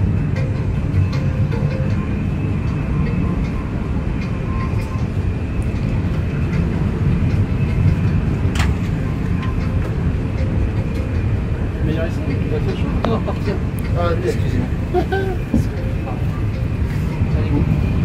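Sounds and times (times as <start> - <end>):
aircraft cabin rumble: 0.0 - 18.0.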